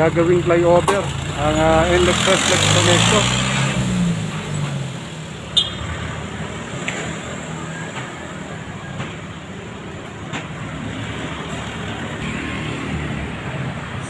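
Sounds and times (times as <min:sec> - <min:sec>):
cars passing: 0:00.0 - 0:14.0.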